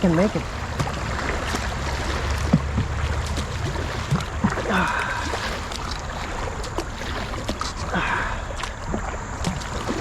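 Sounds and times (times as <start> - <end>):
kayak paddle splashing: 0.0 - 10.0
river current rushing: 0.0 - 10.0.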